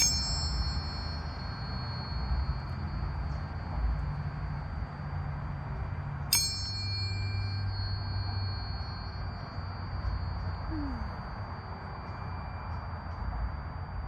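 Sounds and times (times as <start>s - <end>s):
tuning fork struck metallic ping: 0.0s - 5.0s, 6.3s - 13.5s
tuning forks ringing: 0.0s - 14.0s.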